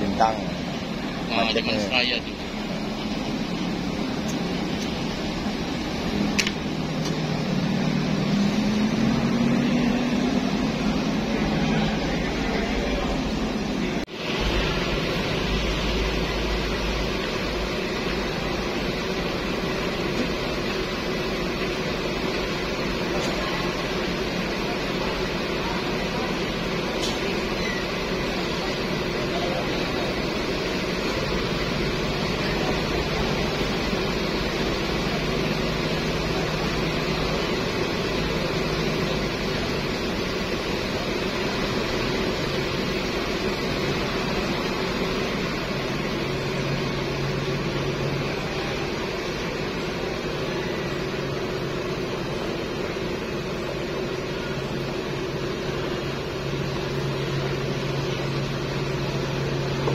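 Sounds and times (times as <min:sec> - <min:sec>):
bus pulling away: 0:00.0 - 0:59.9
coach buses idling: 0:00.0 - 0:59.9.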